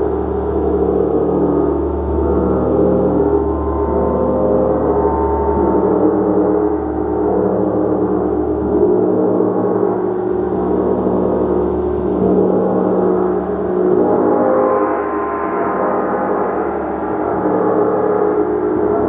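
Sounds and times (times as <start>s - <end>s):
large gong ringing: 0.6s - 19.0s.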